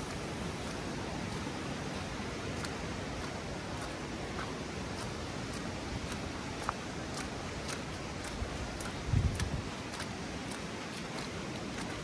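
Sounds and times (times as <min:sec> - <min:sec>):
faint footsteps on wet path: 0:00.0 - 0:12.0
river water rushing: 0:00.0 - 0:12.0.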